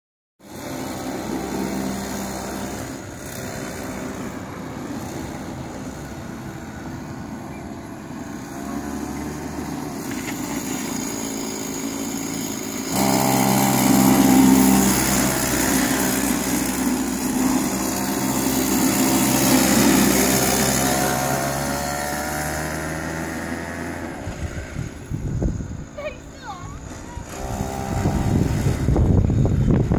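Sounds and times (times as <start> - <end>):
go-kart engine running: 0.4 - 29.9.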